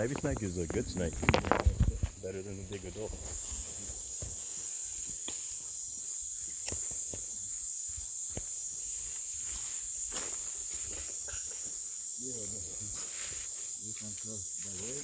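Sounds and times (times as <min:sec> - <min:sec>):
crickets and katydids shrilling: 0:00.0 - 0:15.0.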